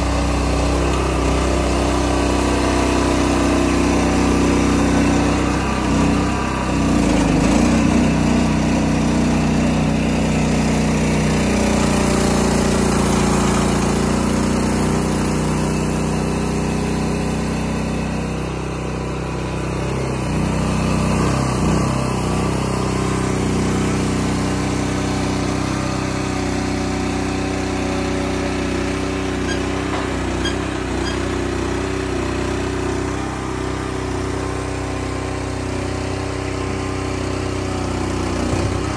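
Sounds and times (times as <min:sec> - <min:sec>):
log loader engine running: 0:00.0 - 0:38.9.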